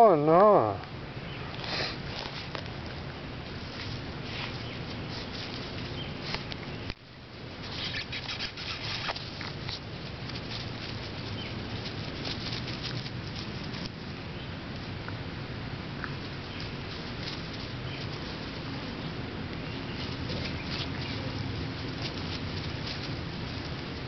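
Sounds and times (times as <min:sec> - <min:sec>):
puppies scampering through grass: 0:01.5 - 0:24.0.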